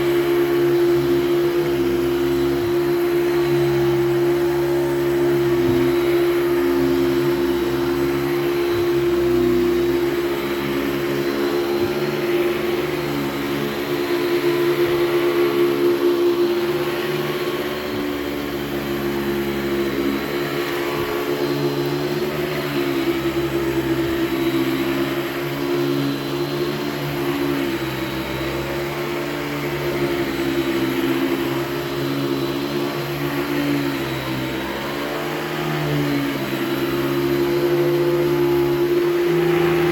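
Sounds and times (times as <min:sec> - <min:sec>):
vacuum cleaner motor hum: 0:00.0 - 0:39.9.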